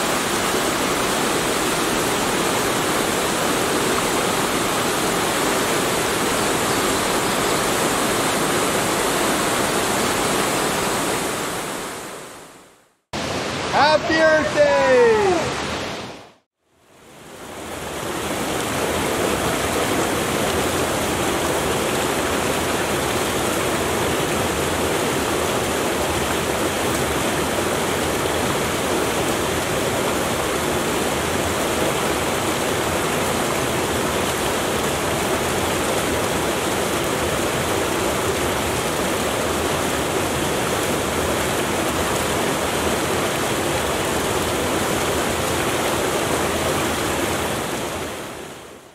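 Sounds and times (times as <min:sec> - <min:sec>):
water rushing over rocks: 0:00.0 - 0:12.6, 0:13.2 - 0:16.4, 0:17.0 - 0:48.9.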